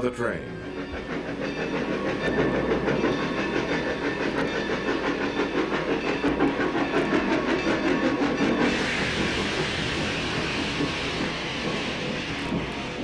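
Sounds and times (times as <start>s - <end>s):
steam locomotive chuffing: 0.0s - 13.0s
train wheel clatter: 0.6s - 13.0s.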